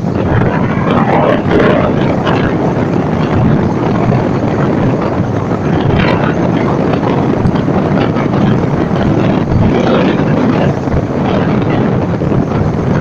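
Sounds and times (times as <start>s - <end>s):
surf breaking: 0.0s - 13.0s
wind on microphone: 0.0s - 13.0s.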